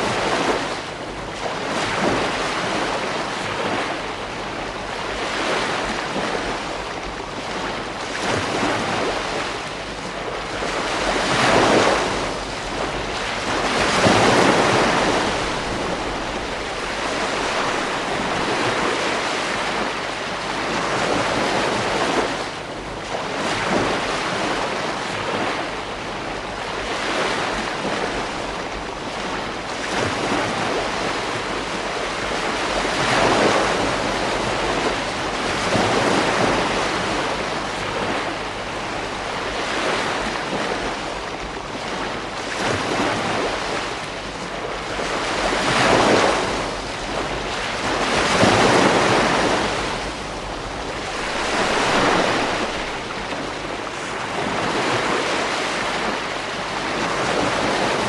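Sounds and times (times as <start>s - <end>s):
ocean waves breaking: 0.0s - 58.0s
wind buffeting microphone: 0.0s - 58.0s.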